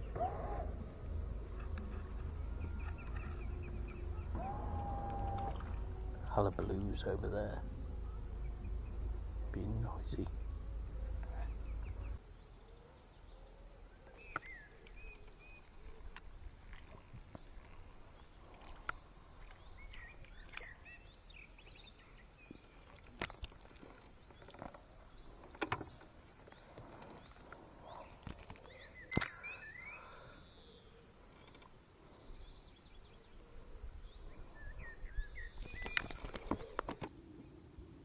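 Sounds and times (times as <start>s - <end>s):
small birds chirping: 1.4s - 38.0s.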